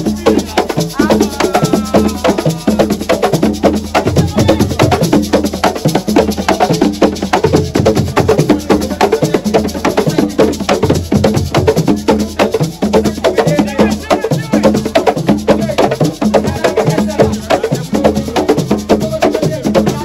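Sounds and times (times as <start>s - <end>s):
wood-block-like percussion strikes: 0.0s - 20.0s.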